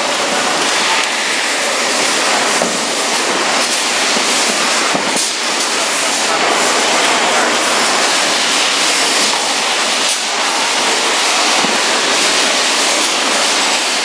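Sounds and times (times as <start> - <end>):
welding arc crackling and hissing: 0.0 - 14.0.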